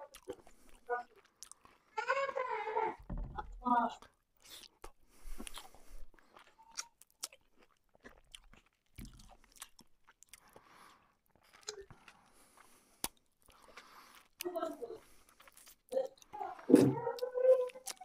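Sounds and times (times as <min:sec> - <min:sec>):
wet eating smacks and clicks: 0:00.0 - 0:01.9, 0:04.4 - 0:18.0
chewing: 0:00.0 - 0:02.0, 0:04.1 - 0:18.0.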